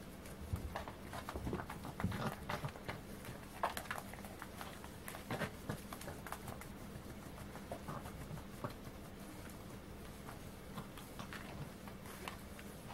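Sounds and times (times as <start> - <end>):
faint steady hum: 0.0 - 12.9
puppies scuffling on carpet: 0.0 - 12.9.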